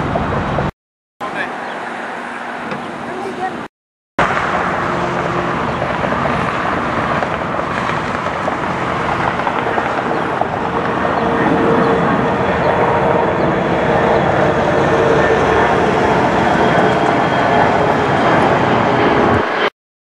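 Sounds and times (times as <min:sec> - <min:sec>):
jet engines rushing: 0:00.0 - 0:19.7.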